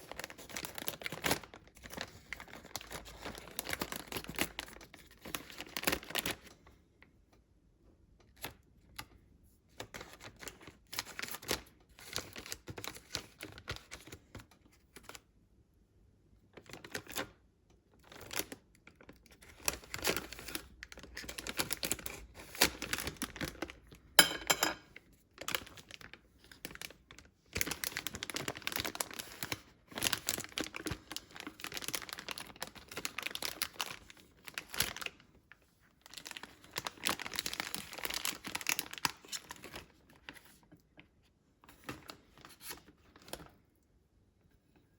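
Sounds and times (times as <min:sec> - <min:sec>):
packaging crinkling and tearing: 0:00.0 - 0:06.6, 0:09.7 - 0:15.2, 0:16.6 - 0:17.4, 0:18.0 - 0:24.2, 0:25.3 - 0:41.0, 0:41.6 - 0:43.6.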